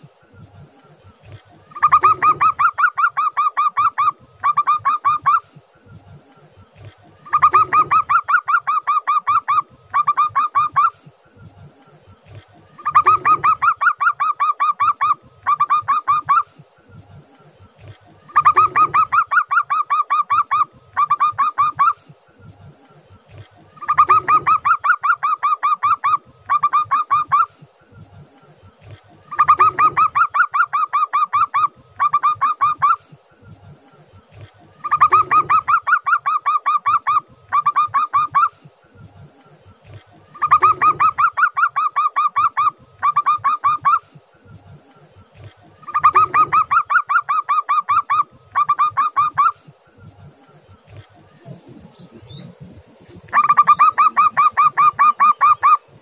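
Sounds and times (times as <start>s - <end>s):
dove cooing: 1.1s - 5.7s, 6.8s - 11.2s, 12.3s - 16.7s, 17.8s - 22.2s, 23.2s - 27.8s, 28.7s - 33.3s, 34.2s - 38.7s, 39.8s - 44.3s, 45.3s - 49.8s, 50.7s - 56.0s.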